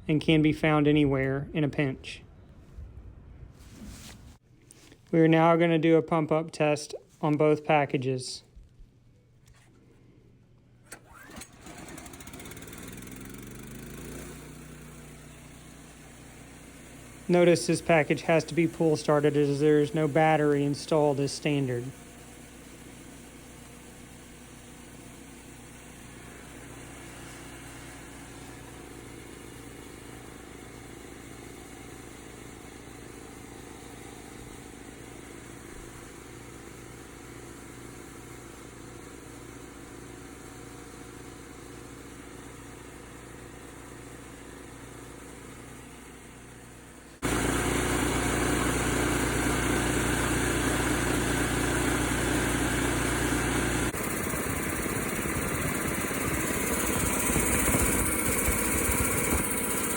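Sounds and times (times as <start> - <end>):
air compressor engine running: 10.9 - 59.9.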